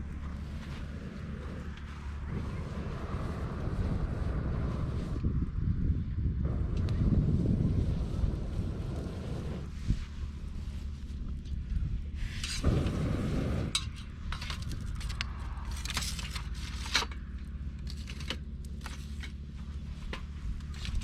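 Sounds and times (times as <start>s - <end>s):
rustling scrape: 0.0s - 5.2s, 7.6s - 21.0s
low hum: 0.0s - 21.0s.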